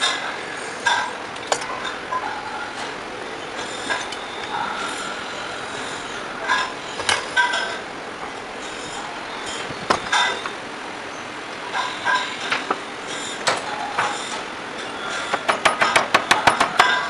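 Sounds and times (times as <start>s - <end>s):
workshop background noise: 0.0s - 17.0s.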